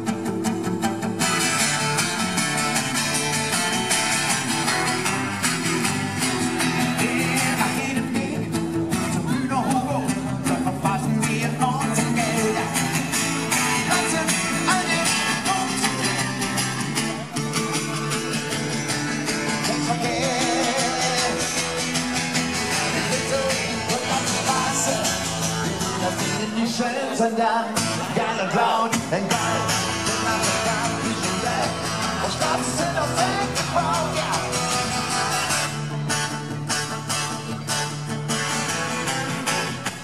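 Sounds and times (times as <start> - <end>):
acoustic guitar strummed in rock song: 0.0 - 40.0.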